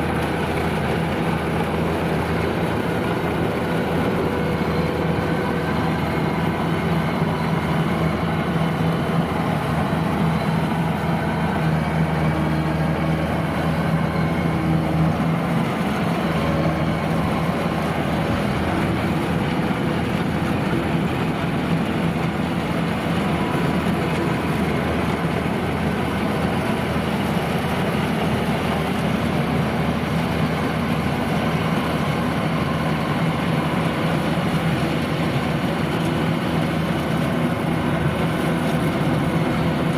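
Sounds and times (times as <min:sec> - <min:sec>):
combine harvester diesel engine drone: 0:00.0 - 0:39.9
machinery rumbling: 0:00.0 - 0:39.9.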